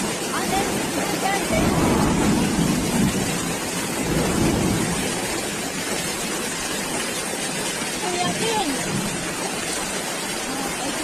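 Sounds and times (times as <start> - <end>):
floodwater rushing: 0.0 - 11.0
heavy rain: 0.0 - 11.0.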